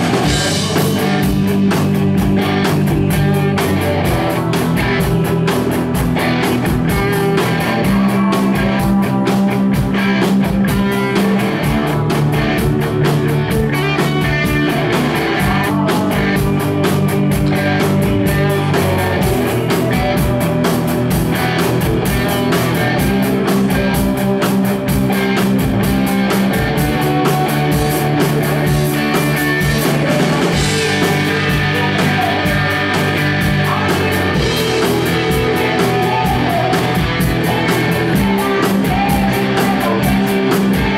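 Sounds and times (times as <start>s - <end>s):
electric guitar: 0.0s - 40.9s
keyboard: 0.0s - 40.9s
steady drum beat: 0.0s - 40.9s.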